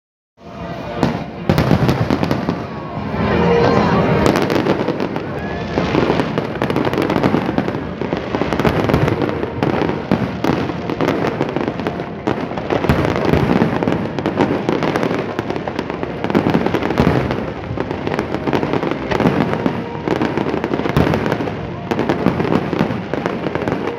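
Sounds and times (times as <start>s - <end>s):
fireworks bursting: 0.4s - 23.9s.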